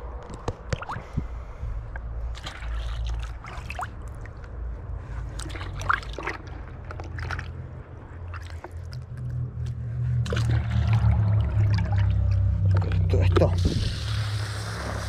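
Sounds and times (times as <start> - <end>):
water sloshing in a bucket: 2.2 - 15.0.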